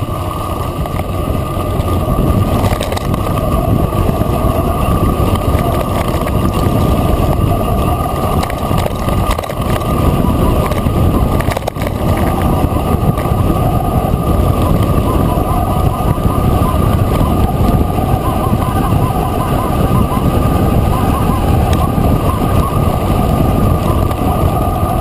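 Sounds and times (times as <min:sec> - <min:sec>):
gravel and bike rattles: 0:00.0 - 0:25.0
wind and tyre rumble: 0:00.0 - 0:25.0.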